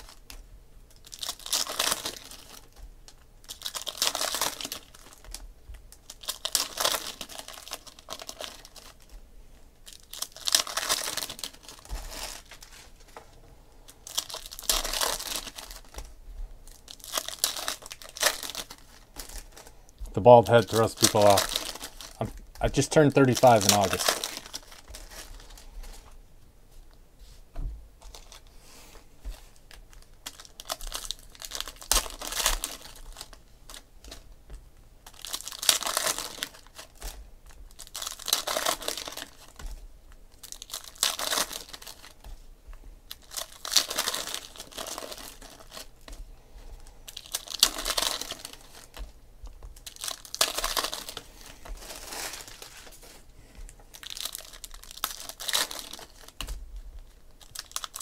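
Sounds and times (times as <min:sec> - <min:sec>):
foil wrappers crinkling and tearing: 0:00.0 - 0:26.2, 0:28.0 - 0:58.0.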